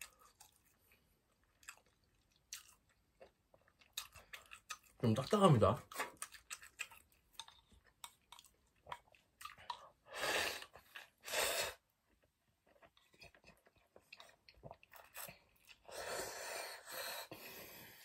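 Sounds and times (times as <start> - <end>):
person chewing noodles: 0.0 - 5.2, 5.8 - 18.0.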